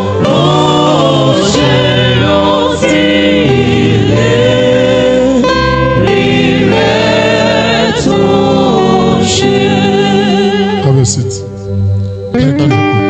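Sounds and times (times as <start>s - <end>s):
choir singing gospel music: 0.0s - 12.4s
guitar: 0.0s - 13.0s.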